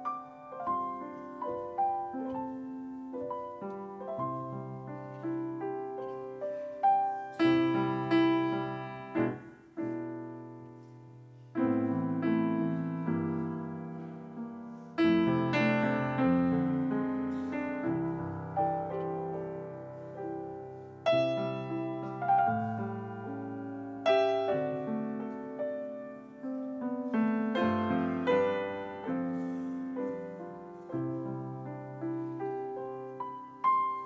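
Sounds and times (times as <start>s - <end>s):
piano melody over chords: 0.0s - 34.0s.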